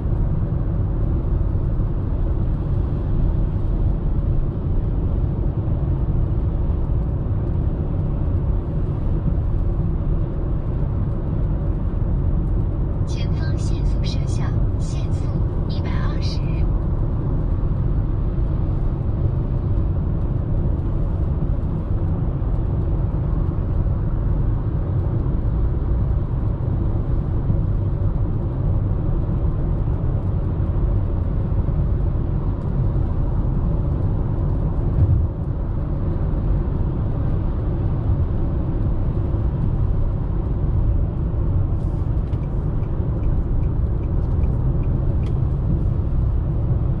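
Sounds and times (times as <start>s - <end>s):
car cabin road noise: 0.0s - 47.0s.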